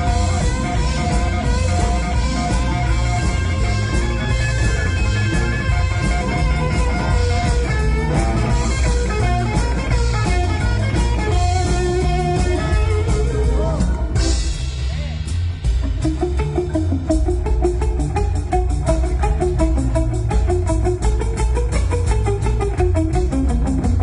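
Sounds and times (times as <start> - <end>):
blues-rock band playing: 0.0 - 24.0
electric guitar lead: 0.0 - 24.0.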